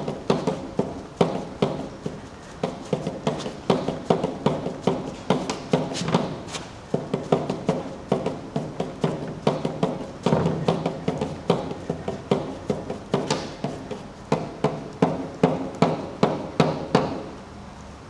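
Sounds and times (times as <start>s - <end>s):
marking tool tapping on paper: 0.0s - 17.2s.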